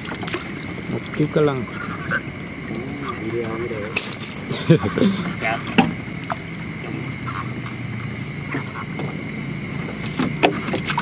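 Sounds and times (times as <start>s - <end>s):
frogs croaking: 0.0s - 11.0s
insects trilling: 0.0s - 11.0s.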